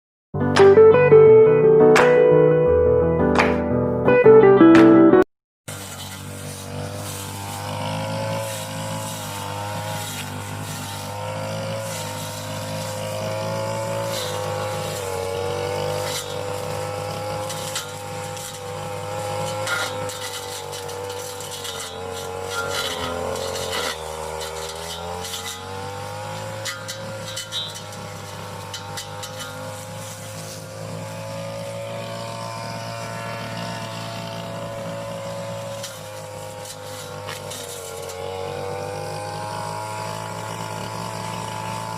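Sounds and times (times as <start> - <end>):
brush cutter engine running: 5.7 - 41.9.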